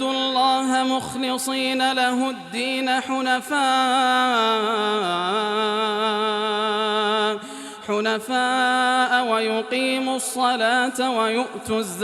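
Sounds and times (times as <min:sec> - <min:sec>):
man chanting recitation: 0:00.0 - 0:12.0.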